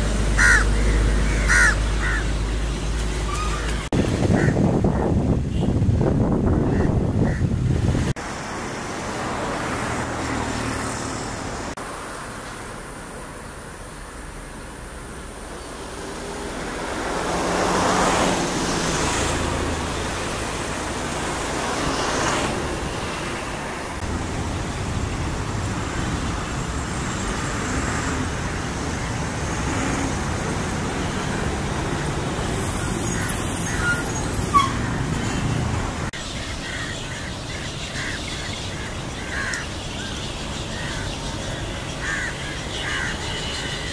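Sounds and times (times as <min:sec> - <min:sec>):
road traffic: 0:00.0 - 0:43.9
vehicles passing close: 0:00.0 - 0:43.9.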